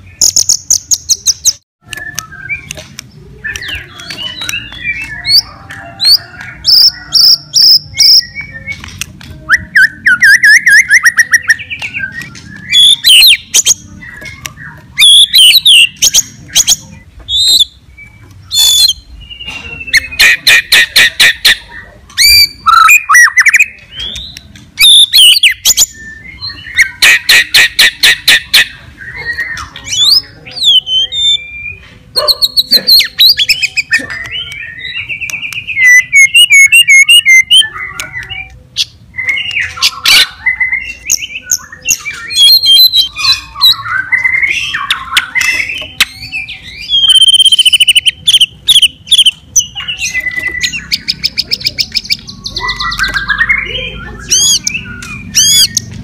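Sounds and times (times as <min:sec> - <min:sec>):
bird singing: 0:00.0 - 0:56.0.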